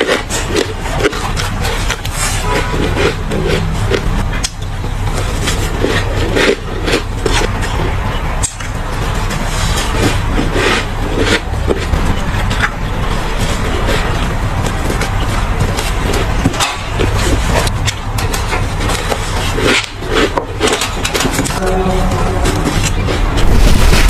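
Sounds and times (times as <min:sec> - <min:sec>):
ice crunching being chewed: 0:00.0 - 0:23.8
low rumble: 0:00.7 - 0:20.1, 0:20.8 - 0:24.0.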